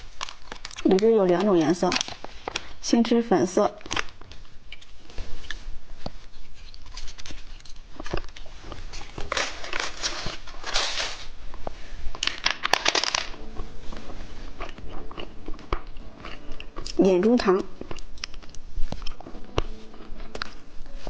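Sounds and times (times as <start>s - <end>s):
plastic wrapper crinkling and tearing: 0.0s - 2.8s, 3.4s - 13.6s, 14.5s - 21.0s.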